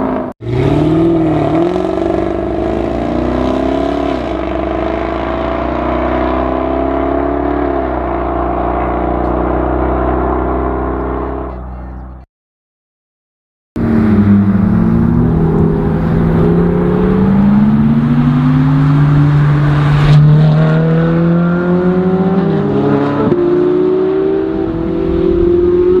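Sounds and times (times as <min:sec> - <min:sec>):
sports car engine revving: 0:00.0 - 0:11.7, 0:13.8 - 0:26.0.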